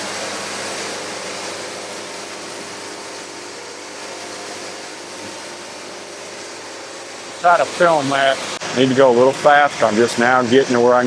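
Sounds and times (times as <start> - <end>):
band sawmill running: 0.0 - 11.0.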